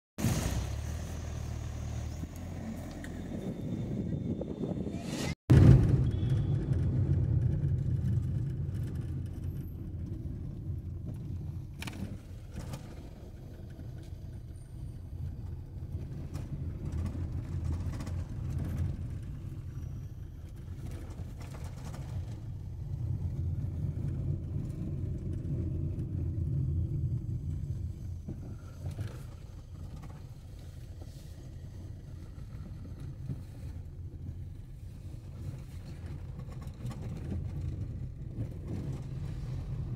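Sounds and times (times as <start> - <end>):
car engine and road noise: 0.2 - 39.9.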